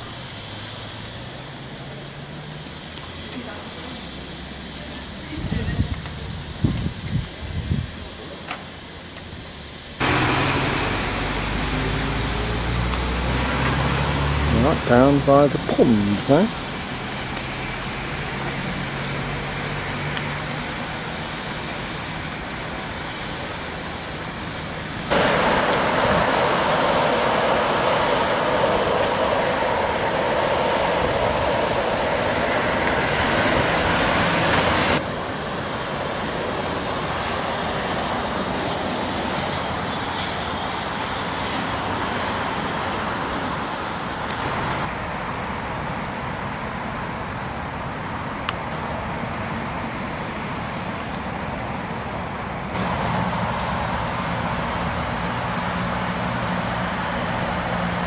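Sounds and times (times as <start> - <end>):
street traffic noise: 0.0 - 58.0.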